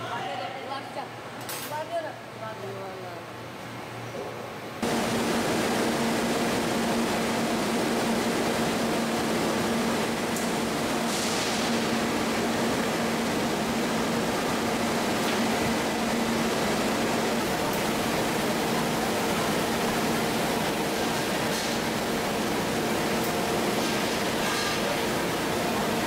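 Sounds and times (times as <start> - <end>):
machinery low hum: 2.3 - 26.0
machinery hiss: 4.8 - 26.0.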